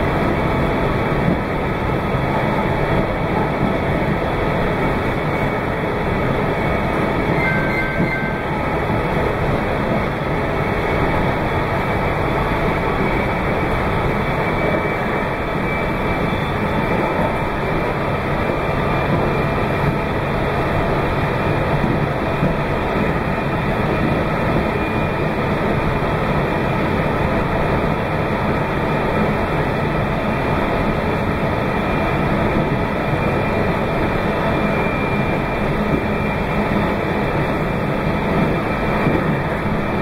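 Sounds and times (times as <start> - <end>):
train wheels on rail: 0.0 - 40.0.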